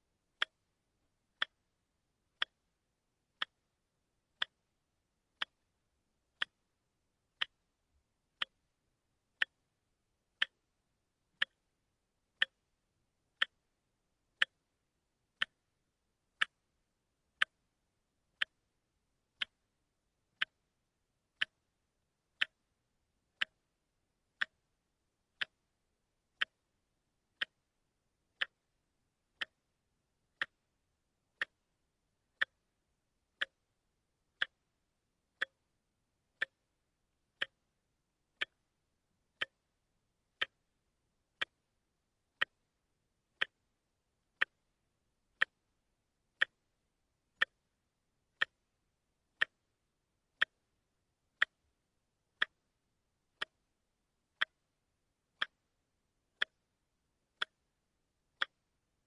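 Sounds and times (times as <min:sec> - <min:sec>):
wristwatch ticking: 0:00.3 - 0:10.7, 0:11.3 - 0:58.9.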